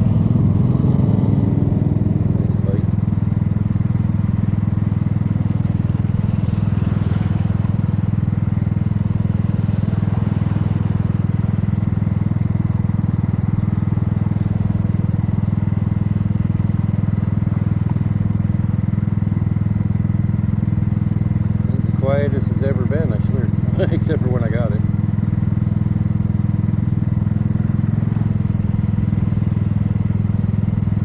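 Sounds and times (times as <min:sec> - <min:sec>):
scooter engine running: 0:00.0 - 0:31.0.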